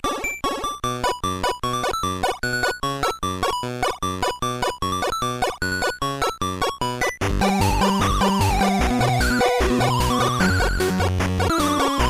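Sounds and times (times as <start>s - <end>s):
chiptune music: 0.0s - 12.0s.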